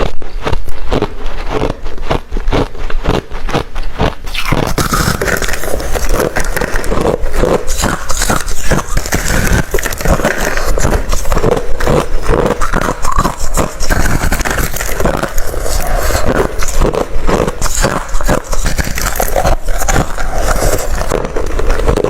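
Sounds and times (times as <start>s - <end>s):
chewing crushed ice: 0.0s - 22.0s.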